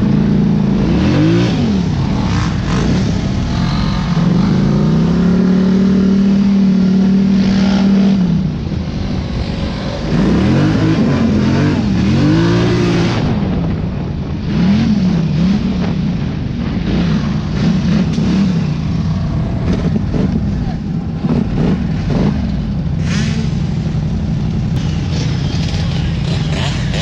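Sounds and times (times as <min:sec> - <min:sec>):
vehicle engine revving: 0:00.0 - 0:13.8, 0:14.4 - 0:27.0.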